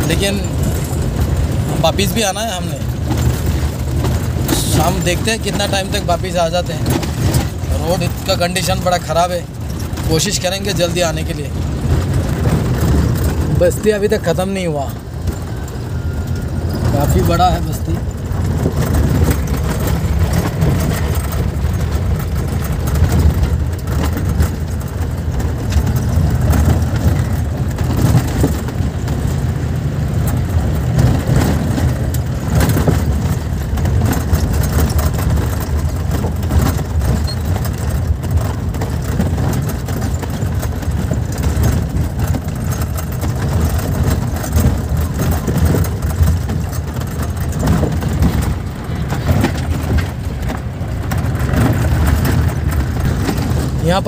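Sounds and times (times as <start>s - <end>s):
vehicle engine and tyre drone: 0.0s - 54.0s.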